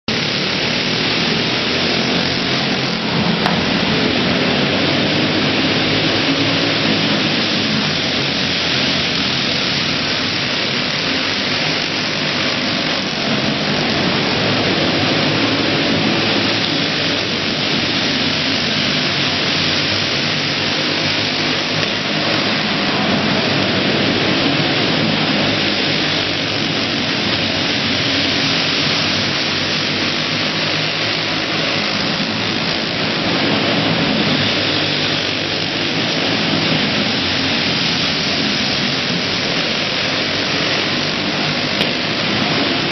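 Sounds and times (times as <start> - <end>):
go-kart engines racing: 0.0 - 42.9.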